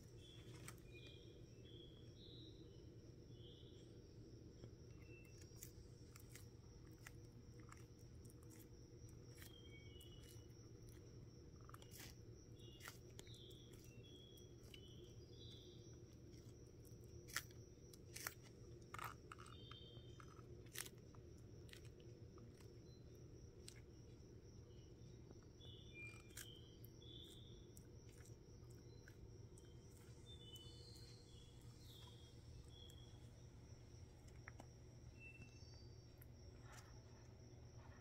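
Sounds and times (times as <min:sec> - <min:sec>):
tortoise chewing crisp lettuce: 0:00.0 - 0:38.0.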